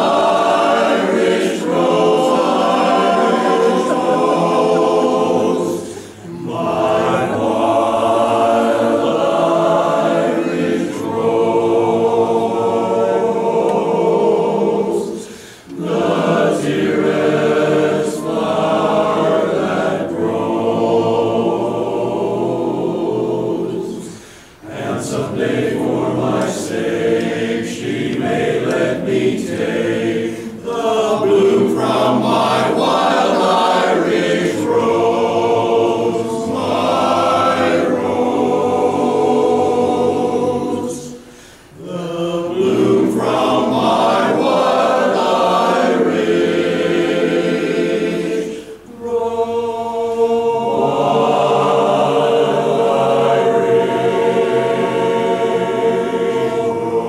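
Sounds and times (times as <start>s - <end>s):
barbershop chorus singing a cappella: 0.0s - 57.0s.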